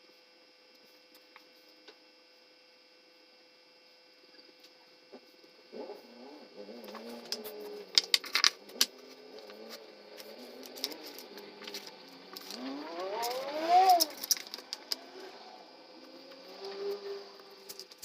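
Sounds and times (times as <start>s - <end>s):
small motor whine: 0.6s - 18.0s.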